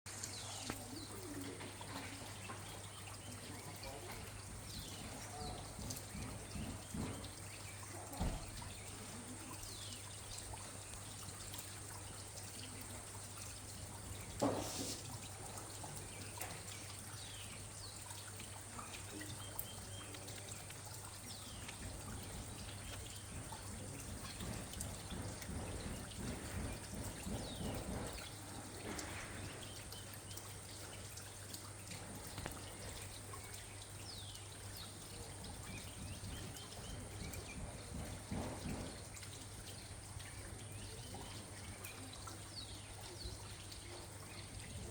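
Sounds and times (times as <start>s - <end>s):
steady rain: 0.1s - 44.9s
water trickling and dripping: 0.1s - 44.9s.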